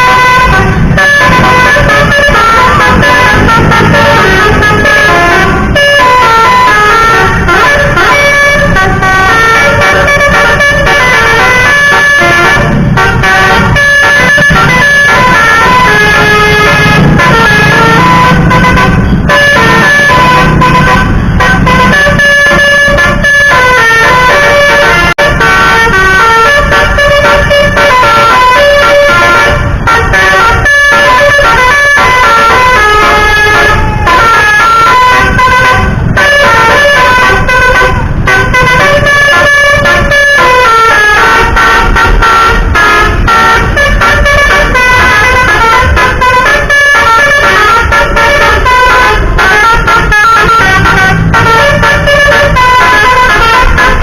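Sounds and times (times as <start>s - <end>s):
multi-tone bus horn melody: 0.0s - 54.0s.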